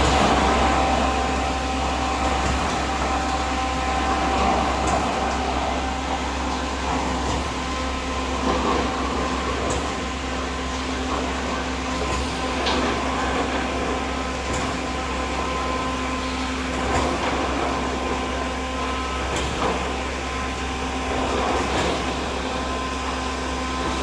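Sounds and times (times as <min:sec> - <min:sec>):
concrete mixer pump engine humming: 0:00.0 - 0:24.0.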